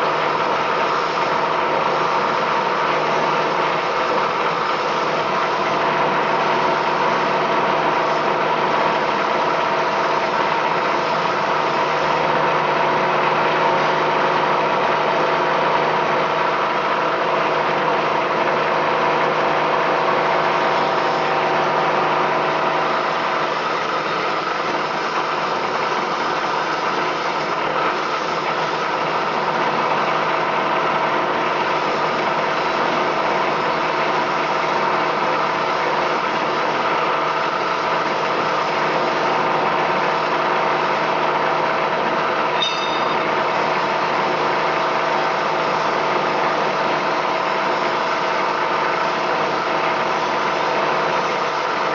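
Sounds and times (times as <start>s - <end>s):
plastic shredding machine hum: 0.0s - 51.9s.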